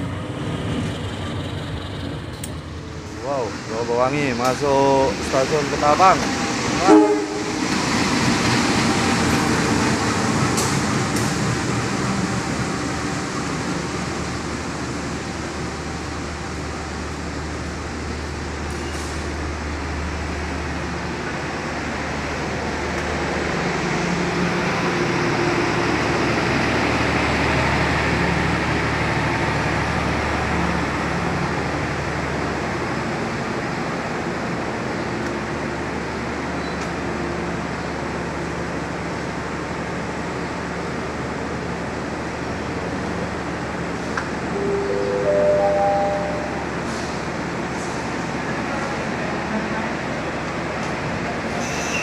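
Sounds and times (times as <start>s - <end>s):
train coaches rolling rumble: 0.0s - 52.0s.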